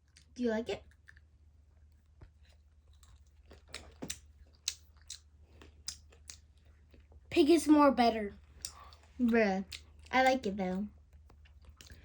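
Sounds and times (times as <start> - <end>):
person chewing candy: 0.0 - 7.3, 8.4 - 12.0.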